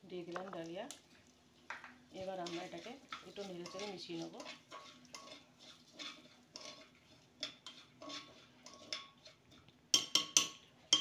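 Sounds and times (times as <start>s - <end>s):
spoon scraping and clinking pot: 1.7s - 11.0s.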